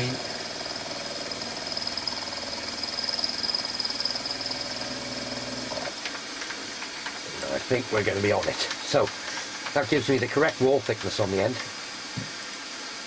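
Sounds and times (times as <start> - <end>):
milling machine high whine: 0.0 - 13.0.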